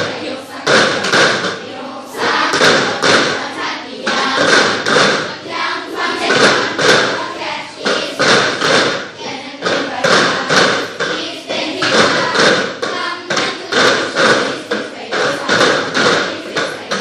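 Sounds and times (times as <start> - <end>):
children's voices: 0.0 - 17.0
plastic cups tapped on desks: 0.0 - 17.0.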